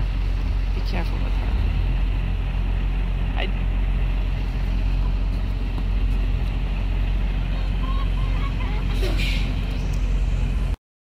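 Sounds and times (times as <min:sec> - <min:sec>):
low outdoor rumble: 0:00.0 - 0:10.8.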